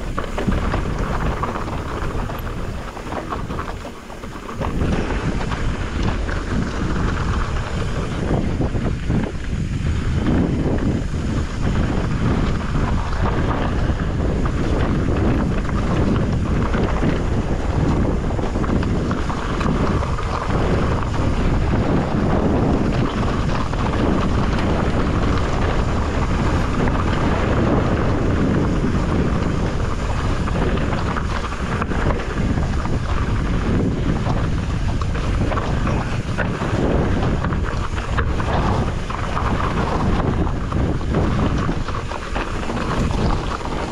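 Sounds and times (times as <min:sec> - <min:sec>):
bike tyres on dirt and stones: 0:00.0 - 0:43.9
wind buffeting microphone: 0:00.0 - 0:43.9.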